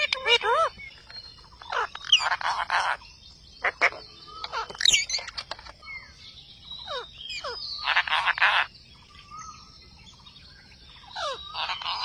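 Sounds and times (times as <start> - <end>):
parakeets squawking and calling: 0.0 - 12.0.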